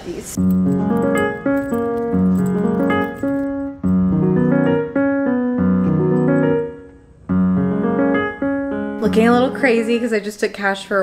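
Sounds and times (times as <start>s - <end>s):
piano chords: 0.4s - 10.3s.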